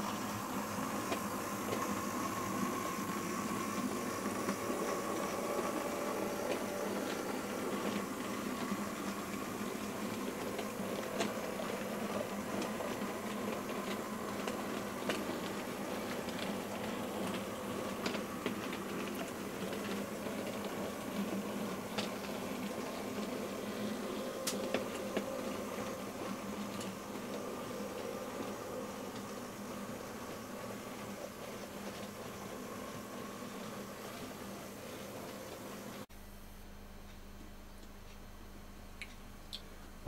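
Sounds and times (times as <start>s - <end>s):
model train motor humming: 0.0s - 36.0s
wheels clicking over rail joints: 0.0s - 36.0s.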